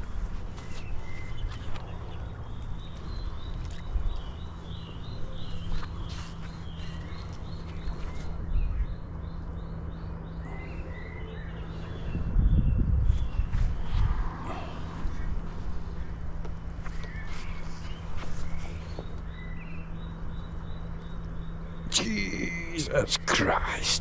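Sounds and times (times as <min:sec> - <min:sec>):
steady low hum: 0:00.0 - 0:24.0
bird chirping: 0:00.6 - 0:24.0.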